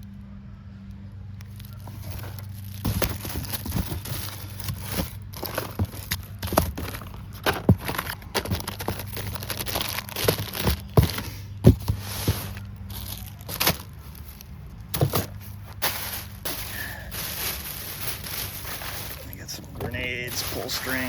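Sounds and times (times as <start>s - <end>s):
packaging crinkling: 1.4s - 21.0s
packages knocking and tapping: 1.6s - 21.0s.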